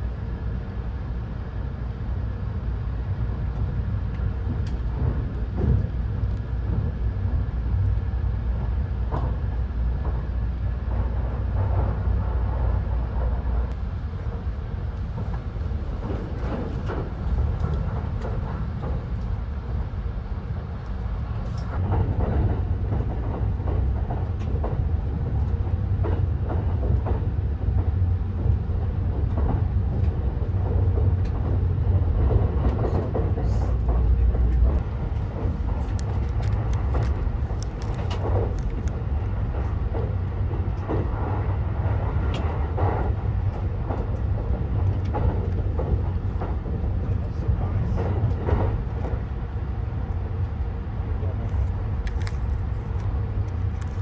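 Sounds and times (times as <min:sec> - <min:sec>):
train cabin rumble: 0:00.0 - 0:54.0.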